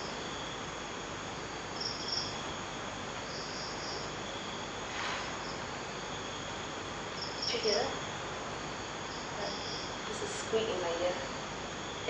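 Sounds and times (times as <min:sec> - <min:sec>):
insect chirping in high trills: 0:00.0 - 0:12.0
steady background hiss: 0:00.0 - 0:12.0.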